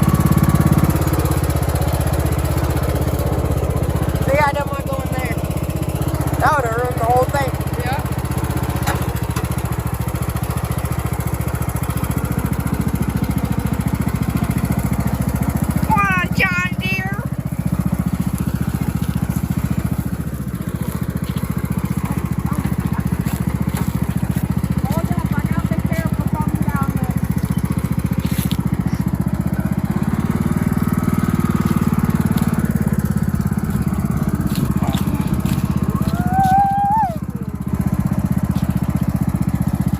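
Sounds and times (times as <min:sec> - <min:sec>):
lawn tractor engine chugging: 0:00.0 - 0:39.9.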